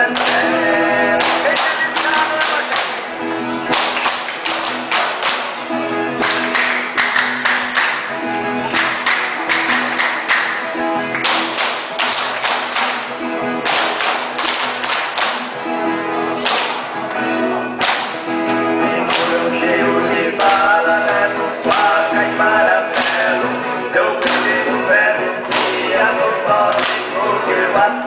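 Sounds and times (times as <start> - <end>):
guitars strumming: 0.0 - 28.0.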